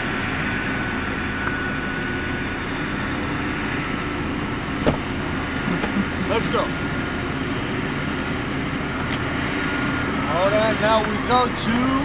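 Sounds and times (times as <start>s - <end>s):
drilling rig machinery drone: 0.0s - 12.0s.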